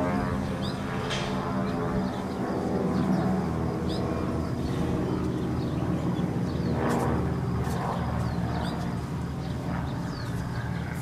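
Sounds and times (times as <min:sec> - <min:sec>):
propeller planes droning past: 0:00.0 - 0:11.0.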